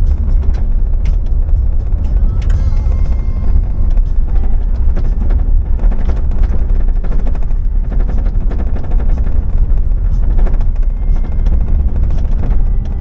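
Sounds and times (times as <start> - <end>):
car driving low rumble: 0.0 - 13.0.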